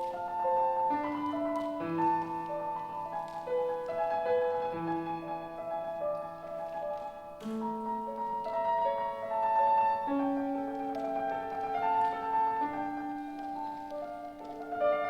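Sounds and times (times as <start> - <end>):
slow classical piano: 0.0 - 15.0.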